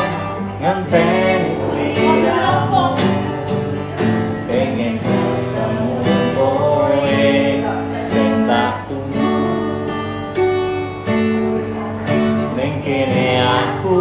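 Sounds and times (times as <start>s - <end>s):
person singing pop song: 0.0s - 10.9s, 11.7s - 14.0s
strummed acoustic guitar: 0.0s - 14.0s.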